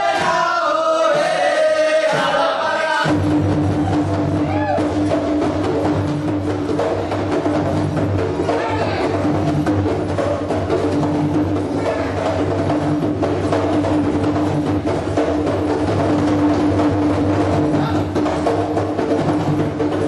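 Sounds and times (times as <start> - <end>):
hand drums playing fast rhythm: 0.0 - 20.0.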